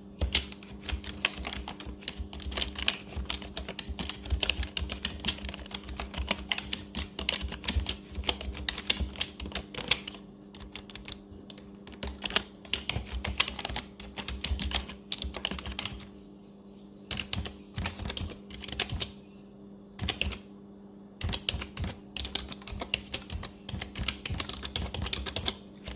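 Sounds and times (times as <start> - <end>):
steady low hum: 0.0 - 25.9
typing on computer keyboard: 0.2 - 16.1, 17.1 - 19.1, 20.0 - 20.4, 21.2 - 25.9.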